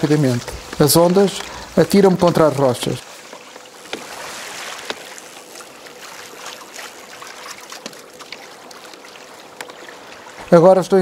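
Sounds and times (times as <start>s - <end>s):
faint steady hum: 0.0s - 11.0s
water splashing along hulls: 0.0s - 11.0s.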